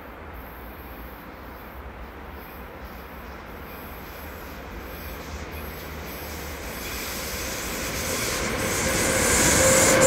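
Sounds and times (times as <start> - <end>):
electric train approaching: 0.4 - 10.0
high hiss: 0.4 - 10.0.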